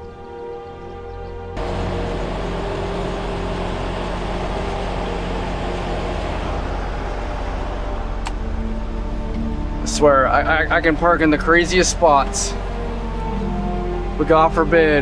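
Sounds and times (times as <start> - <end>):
background music: 0.0 - 15.0
road and cab noise: 1.6 - 15.0
truck diesel engine running: 1.6 - 15.0.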